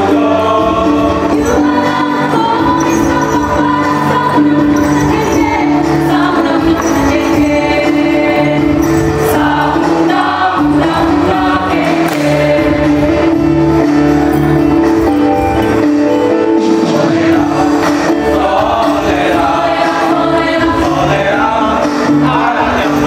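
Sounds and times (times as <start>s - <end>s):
backing music: 0.0s - 23.0s
mixed choir singing: 0.0s - 23.0s.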